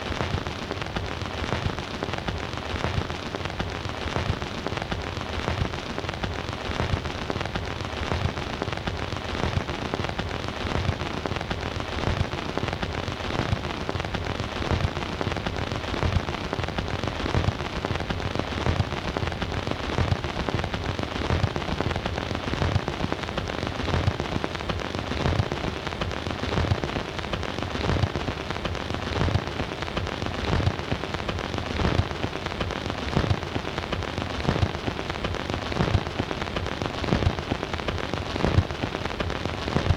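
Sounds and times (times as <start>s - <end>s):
record surface hiss and crackle: 0.0s - 39.9s.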